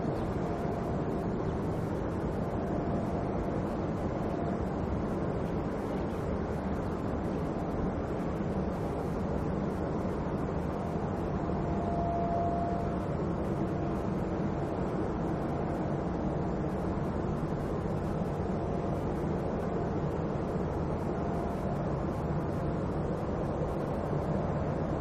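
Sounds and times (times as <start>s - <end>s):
faint engine whine: 0.0s - 25.0s
jet engines rumbling: 0.0s - 25.0s.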